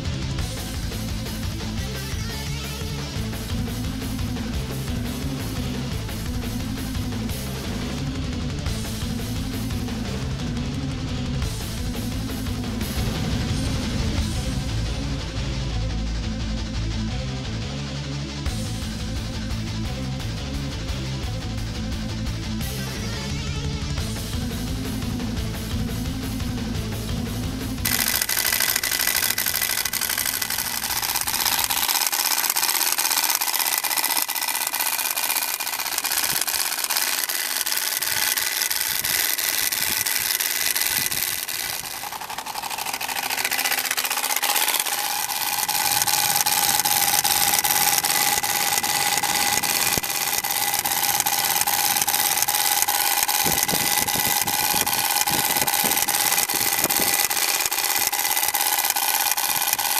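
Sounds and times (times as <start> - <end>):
bicycle spoke card buzzing: 0.0 - 14.6, 22.3 - 59.9.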